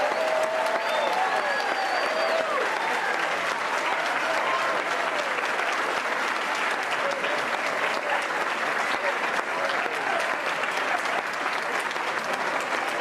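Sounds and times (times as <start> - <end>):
audience applauding: 0.0 - 13.0
voices calling out and cheering: 0.0 - 13.0.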